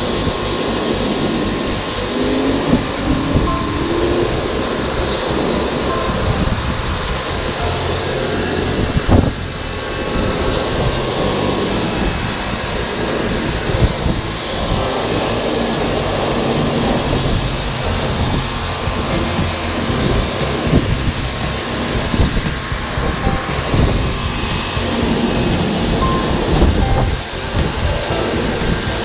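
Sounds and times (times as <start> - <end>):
pressure washer jet hissing: 0.0 - 29.0.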